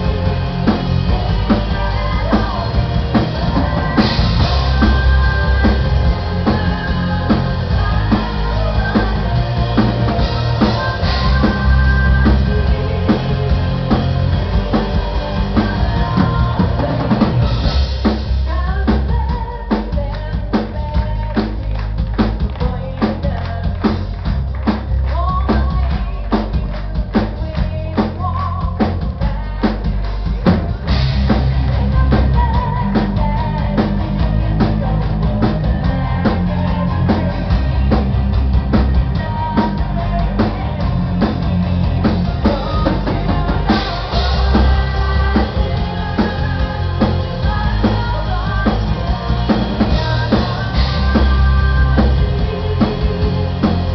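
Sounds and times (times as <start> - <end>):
woman singing: 0.0 - 17.6, 18.4 - 53.9
metal band playing live: 0.0 - 53.9.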